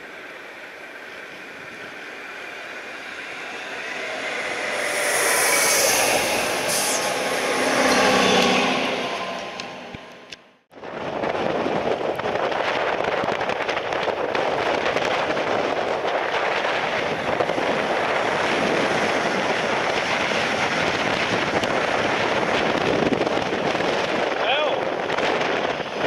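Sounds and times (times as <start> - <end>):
train passing at speed: 0.0 - 12.8, 14.3 - 24.4.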